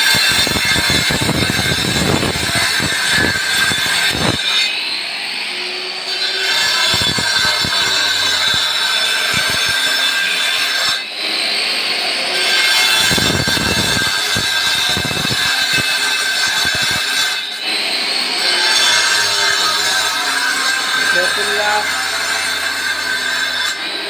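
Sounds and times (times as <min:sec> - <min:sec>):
disc cutter grinding brick: 0:00.0 - 0:24.0.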